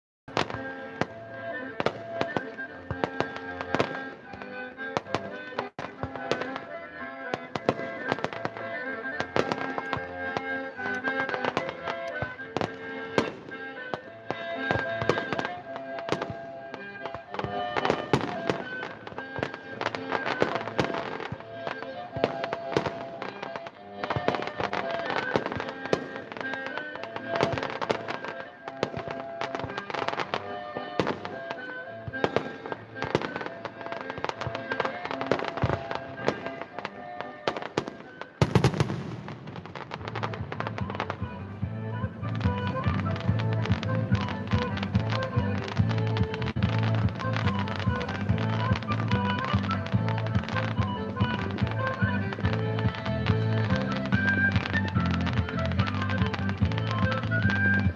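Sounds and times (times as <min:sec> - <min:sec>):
fireworks bangs and crackling: 0:00.3 - 0:57.9
music playing: 0:00.3 - 0:57.9.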